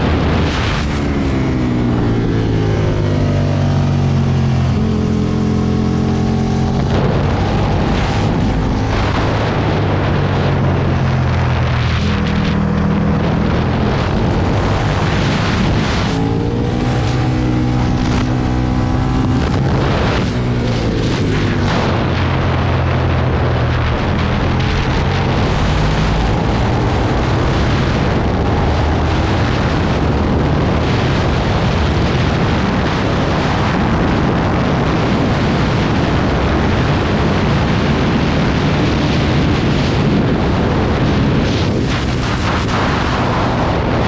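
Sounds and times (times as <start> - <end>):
motorcycle engine accelerating: 0.0 - 44.0
wind rush: 0.0 - 44.0.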